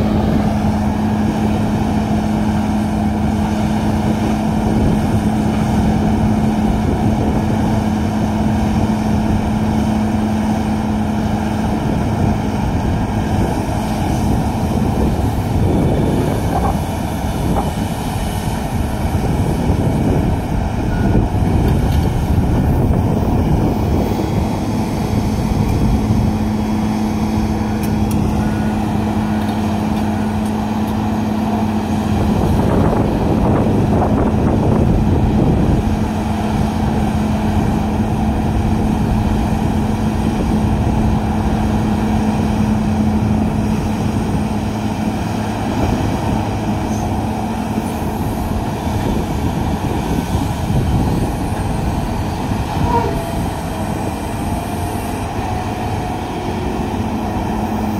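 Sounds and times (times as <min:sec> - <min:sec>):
heavy diesel engines droning: 0:00.0 - 0:57.9.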